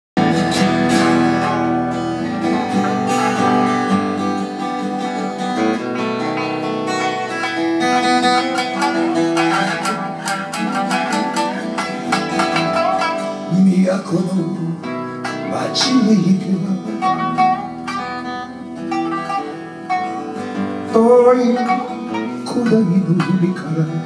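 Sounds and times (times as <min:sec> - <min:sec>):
plucked acoustic guitar: 0:00.2 - 0:24.0
shamisen notes: 0:02.6 - 0:24.0.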